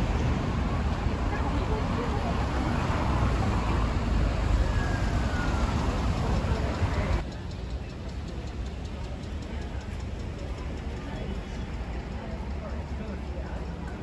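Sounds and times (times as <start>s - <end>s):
street traffic passing: 0.0s - 14.0s.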